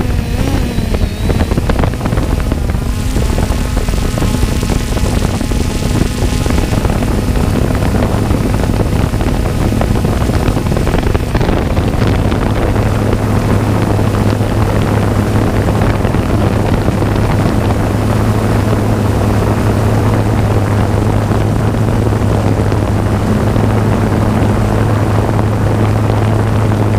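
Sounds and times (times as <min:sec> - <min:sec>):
jet ski engine droning: 0:00.0 - 0:26.9
wind buffeting microphone: 0:00.0 - 0:26.9.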